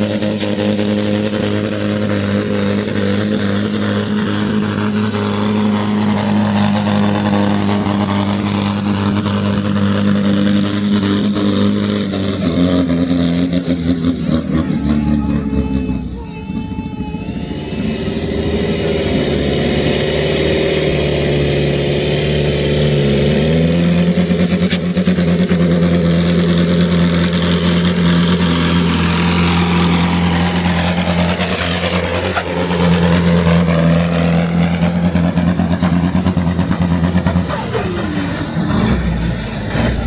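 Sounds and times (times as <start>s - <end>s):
tractor engine running hard: 0.0s - 40.0s.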